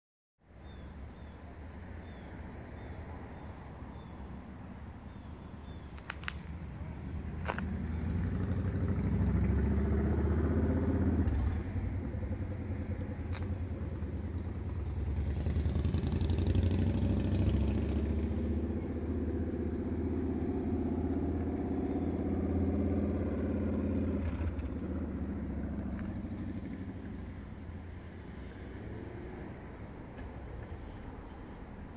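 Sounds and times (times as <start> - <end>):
insects chirping: 0.4 - 31.9
vehicle engine rumble: 0.8 - 31.9.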